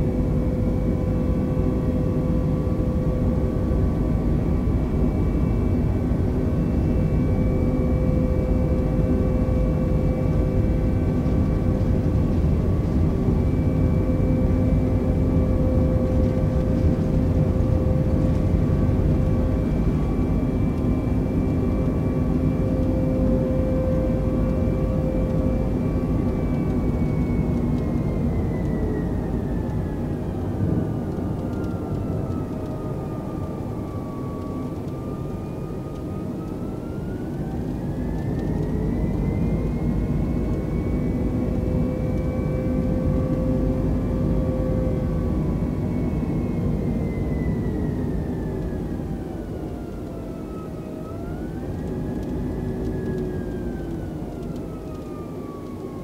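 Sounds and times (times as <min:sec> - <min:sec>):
engine whine: 0:00.0 - 0:56.0
jet engine cabin rumble: 0:00.0 - 0:56.0.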